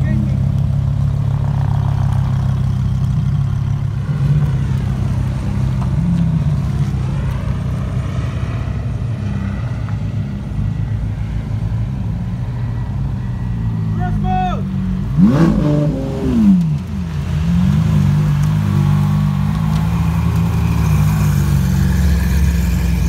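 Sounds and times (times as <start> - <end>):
car engines low rumble: 0.0 - 23.0.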